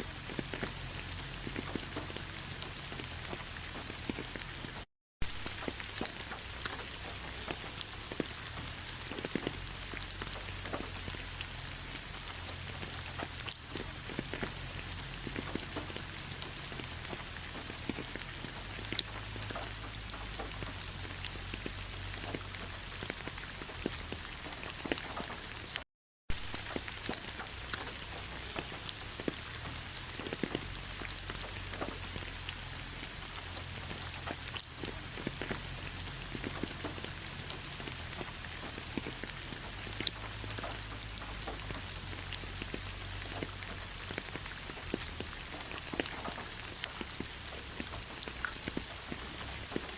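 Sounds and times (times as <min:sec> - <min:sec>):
rain pattering on leaves: 0:00.0 - 0:49.9.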